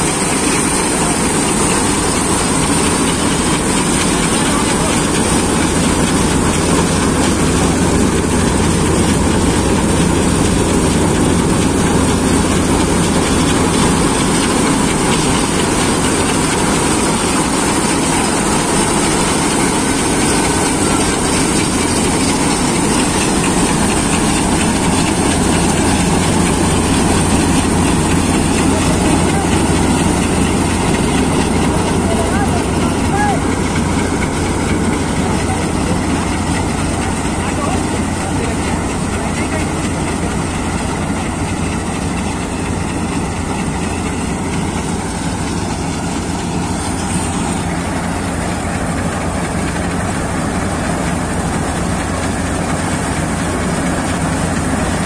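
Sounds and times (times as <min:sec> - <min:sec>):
combine harvester machinery running: 0:00.0 - 0:55.0.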